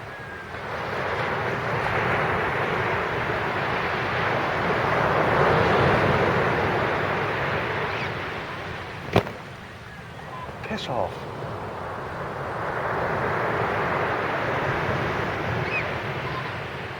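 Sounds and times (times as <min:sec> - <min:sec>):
sea waves breaking: 0:00.2 - 0:16.9.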